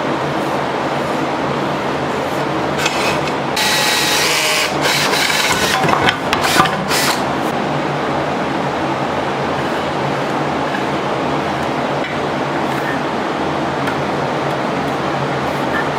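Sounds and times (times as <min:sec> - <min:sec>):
steady low hum: 0:00.0 - 0:15.9
scraping and rubbing: 0:00.3 - 0:07.6, 0:09.5 - 0:15.9.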